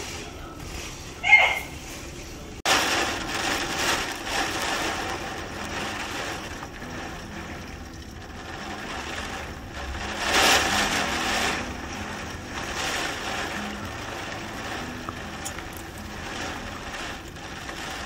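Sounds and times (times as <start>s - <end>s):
gusty storm wind and rain: 2.5s - 18.0s.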